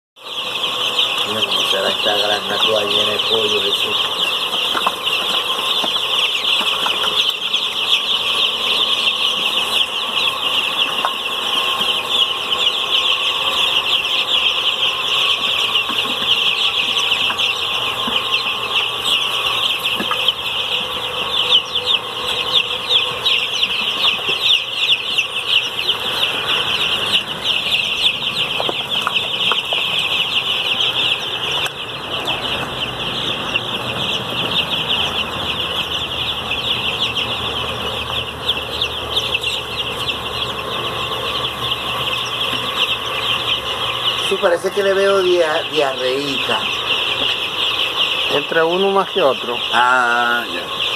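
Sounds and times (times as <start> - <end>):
chicks peeping: 0.2 - 50.9.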